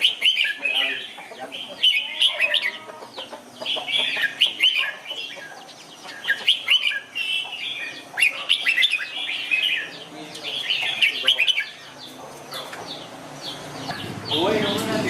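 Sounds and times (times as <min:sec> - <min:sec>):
bulbul singing warbling chirps: 0:00.0 - 0:15.0.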